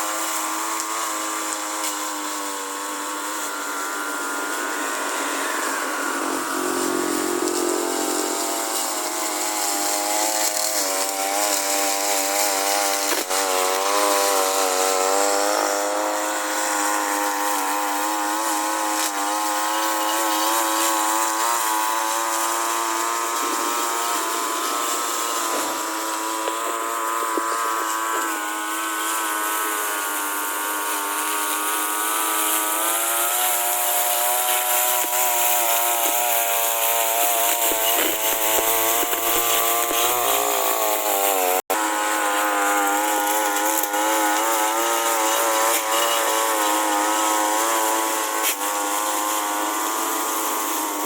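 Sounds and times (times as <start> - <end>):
lawn mower engine running: 0.0 - 51.0.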